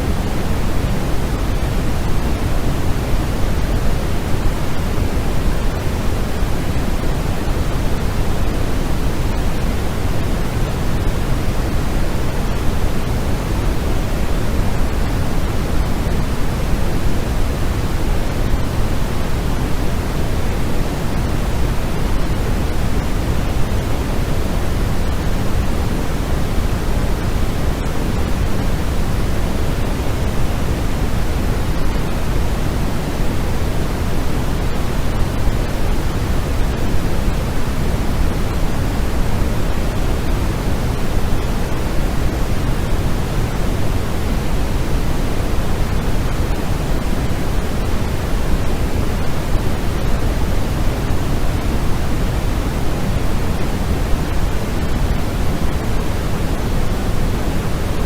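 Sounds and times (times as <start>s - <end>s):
white noise rush: 0.0s - 58.0s.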